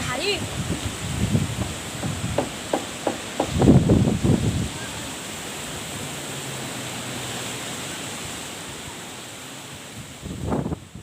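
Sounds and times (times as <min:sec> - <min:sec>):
strong wind: 0:00.0 - 0:11.0
surf rushing: 0:00.0 - 0:11.0.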